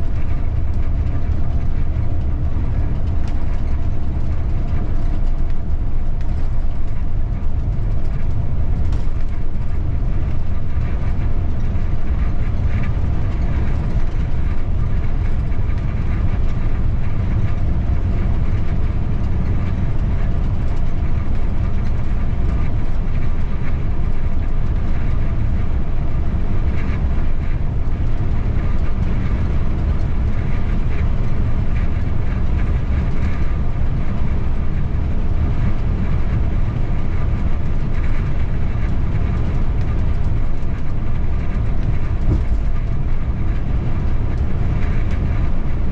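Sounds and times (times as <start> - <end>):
bus engine and road rumble: 0.0 - 45.9
faint ticks and rattles: 0.0 - 45.9.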